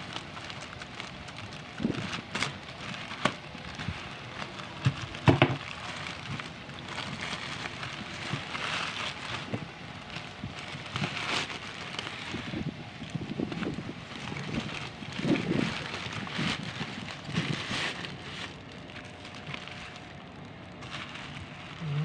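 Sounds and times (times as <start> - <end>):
plastic pouch crinkling: 0.0 - 22.0.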